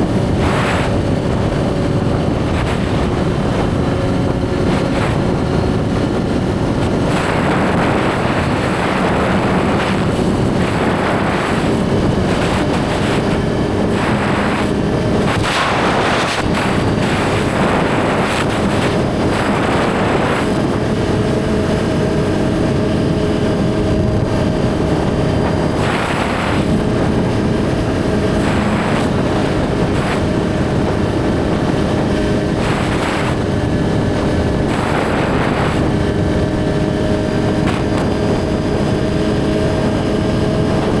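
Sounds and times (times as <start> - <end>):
motorcycle engine running: 0.0 - 41.0
rushing wind noise: 0.0 - 41.0.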